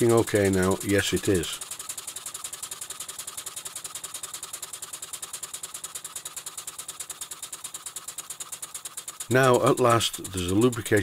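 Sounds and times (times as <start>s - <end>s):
model steam engine beating: 0.0s - 11.0s.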